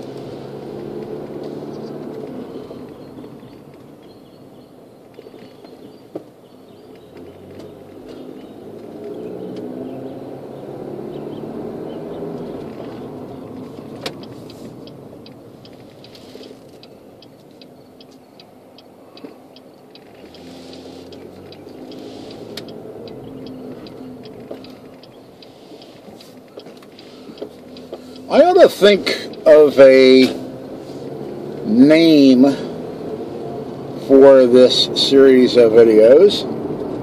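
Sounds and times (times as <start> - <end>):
turn signal clicking: 0.0 - 4.3, 5.0 - 34.0
car engine and road noise: 0.0 - 37.0.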